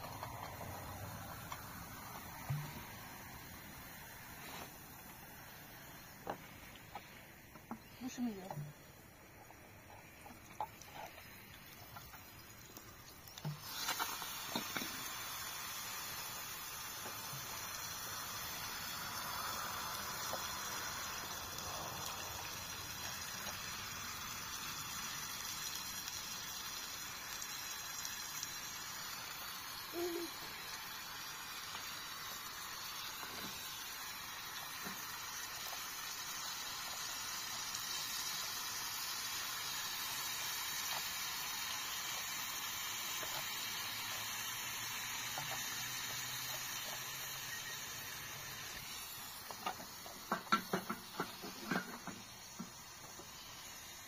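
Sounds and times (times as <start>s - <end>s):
liver sizzling in oil: 0.0s - 54.0s.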